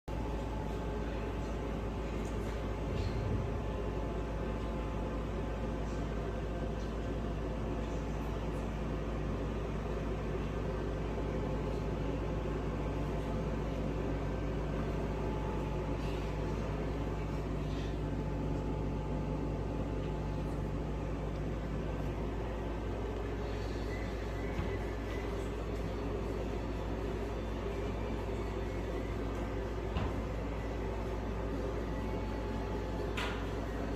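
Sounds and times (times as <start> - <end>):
machine humming: 0.1 - 33.9.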